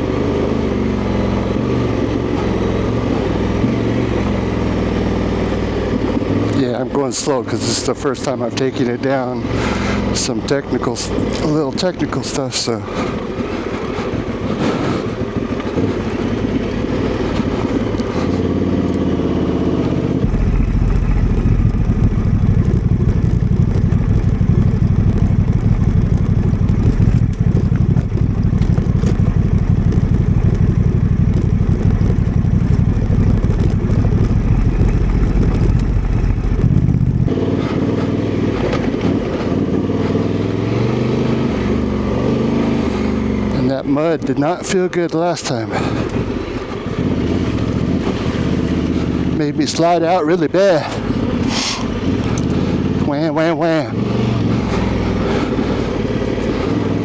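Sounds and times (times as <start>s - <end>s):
motorcycle engine at low revs: 0.0s - 57.0s.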